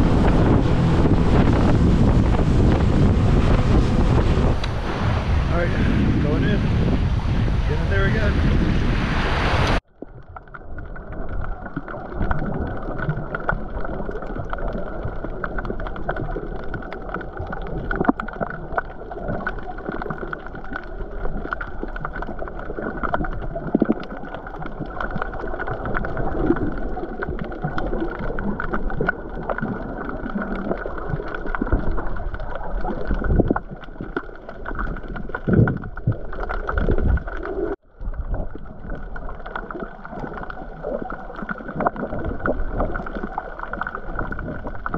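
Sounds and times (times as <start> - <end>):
muffled water sloshing and gurgling: 0.0 - 44.9.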